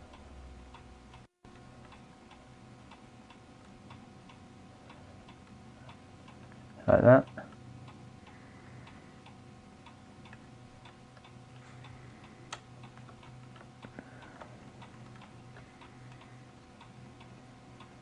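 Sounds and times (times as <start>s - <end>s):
faint clock ticking: 0.0s - 18.0s.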